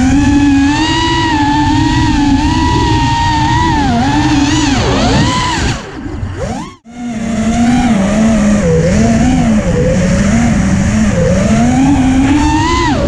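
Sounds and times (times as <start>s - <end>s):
motor whine sliding in pitch: 0.0s - 13.0s.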